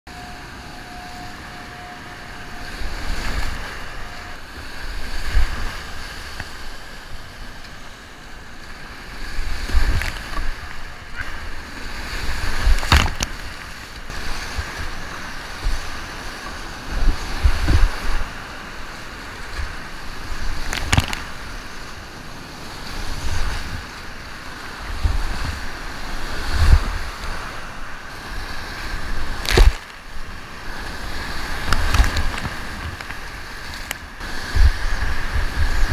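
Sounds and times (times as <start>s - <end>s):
water splashing: 0.1s - 35.9s.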